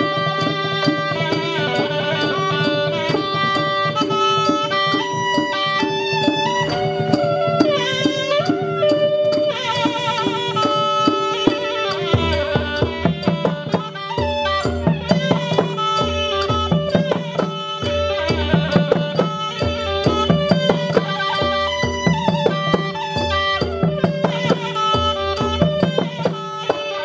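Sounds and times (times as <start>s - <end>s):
drums and percussion strokes: 0.0s - 27.0s
wind instrument melody: 0.0s - 27.0s.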